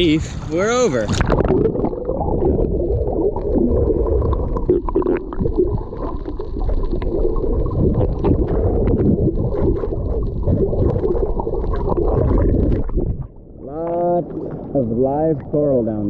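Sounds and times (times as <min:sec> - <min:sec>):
muffled underwater rumble and gurgle: 0:00.0 - 0:16.0.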